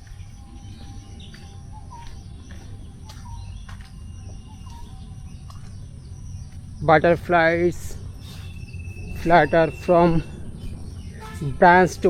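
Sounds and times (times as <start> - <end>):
faint bird chirps: 0.0 - 12.0
outdoor background noise: 0.0 - 12.0.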